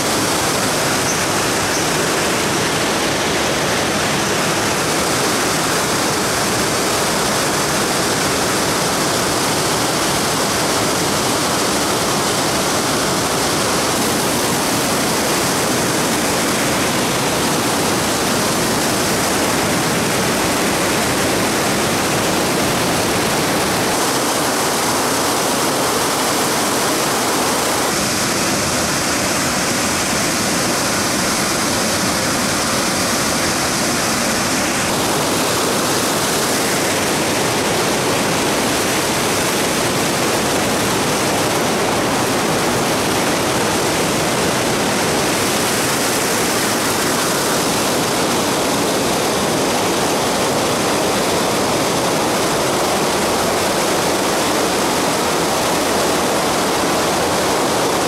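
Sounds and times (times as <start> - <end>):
water rushing over waterfall: 0.0 - 58.0.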